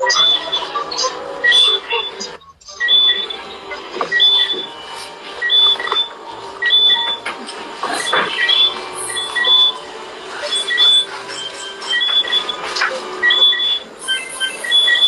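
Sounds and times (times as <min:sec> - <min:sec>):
high electronic beeps: 0:00.0 - 0:15.0.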